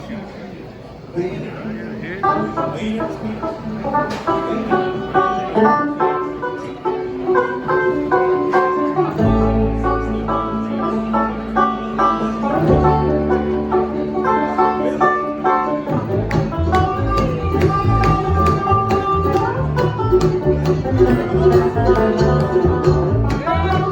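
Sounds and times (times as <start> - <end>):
bluegrass band playing: 1.4 - 23.9
long held low notes: 2.2 - 23.9.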